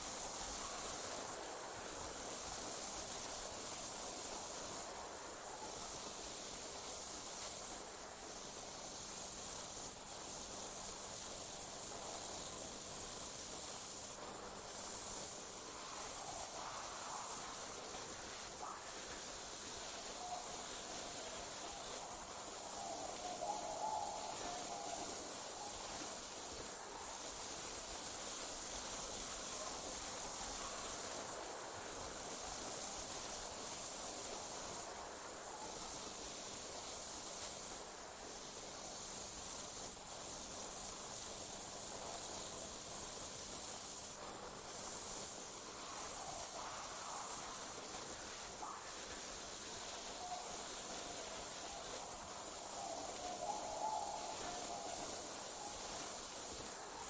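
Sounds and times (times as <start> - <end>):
crickets trilling: 5.6 - 57.0.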